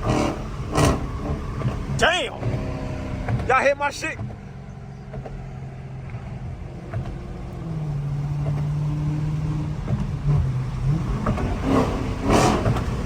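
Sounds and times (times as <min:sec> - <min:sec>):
car engine low drone: 0:00.0 - 0:13.0.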